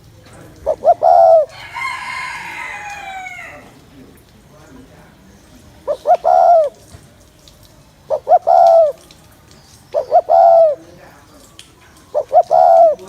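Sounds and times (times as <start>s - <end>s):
dove cooing: 0.0s - 7.2s, 7.8s - 13.0s.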